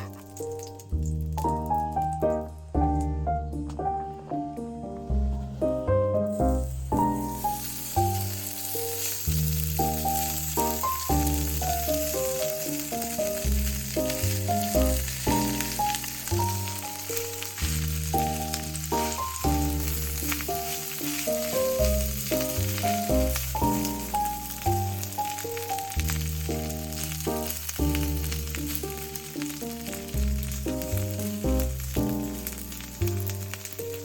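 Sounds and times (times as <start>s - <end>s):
food sizzling in a pan: 0.0s - 2.5s, 6.2s - 34.0s
music with piano and bass: 0.0s - 34.0s.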